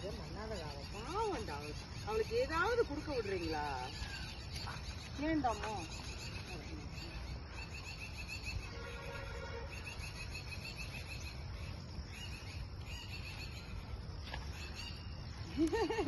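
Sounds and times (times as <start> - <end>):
high chirping: 0.0 - 16.0.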